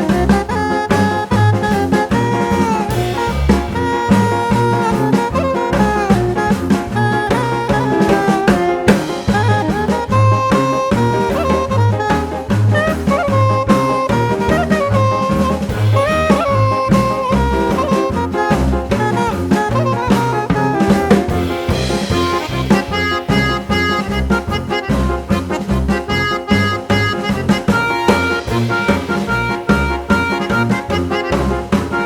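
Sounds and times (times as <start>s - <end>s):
upbeat jazz tune: 0.0s - 32.0s.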